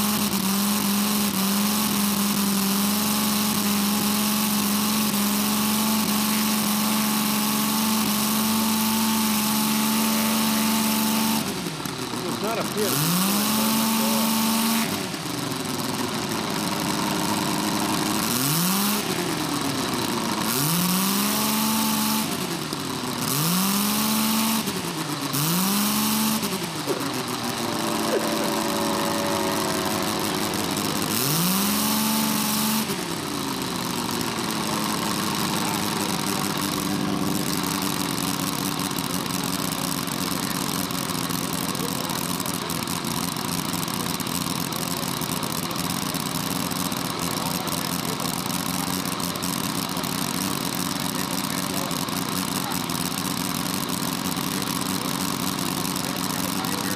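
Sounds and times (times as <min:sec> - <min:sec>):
model rotary engine revving: 0:00.0 - 0:56.9.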